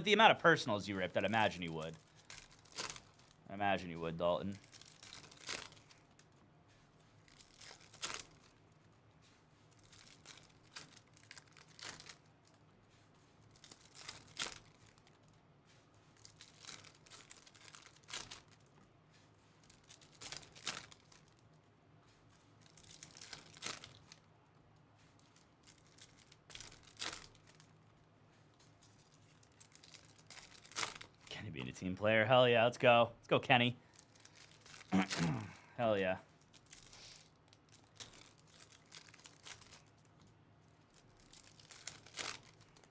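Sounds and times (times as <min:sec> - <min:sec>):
foil wrapper crinkling: 0:00.0 - 0:18.7, 0:19.4 - 0:21.6, 0:22.2 - 0:24.3, 0:25.0 - 0:27.8, 0:28.4 - 0:31.8, 0:33.8 - 0:42.9.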